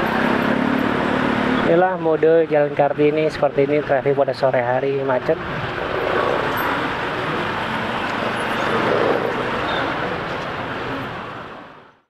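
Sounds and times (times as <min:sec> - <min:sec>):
scooters and motorcycles in traffic: 0:00.0 - 0:12.0.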